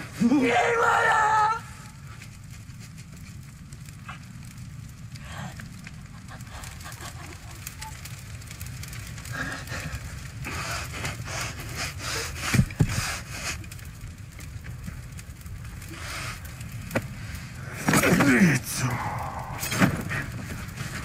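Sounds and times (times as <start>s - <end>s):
bonfire crackling: 0.0s - 21.0s
low steady rumble: 0.0s - 21.0s.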